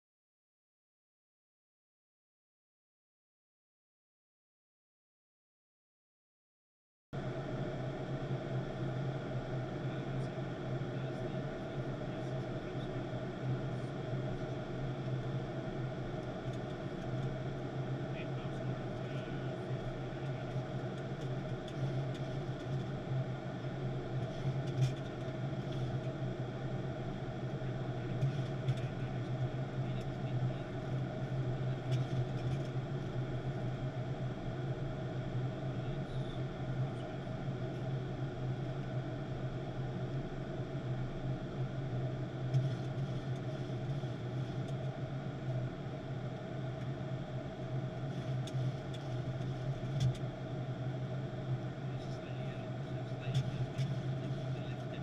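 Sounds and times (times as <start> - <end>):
engine hum: 7.2 - 55.0.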